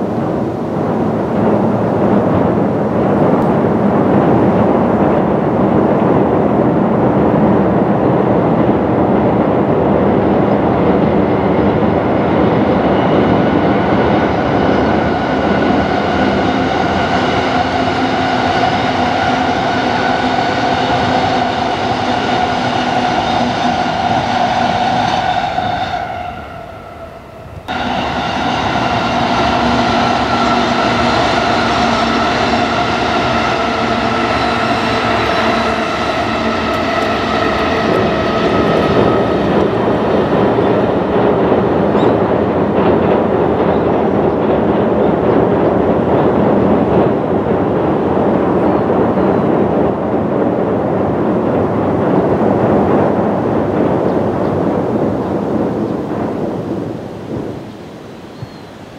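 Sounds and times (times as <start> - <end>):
steady humming tones: 0.0 - 50.1
train wheels rumbling on bridge: 0.0 - 58.9.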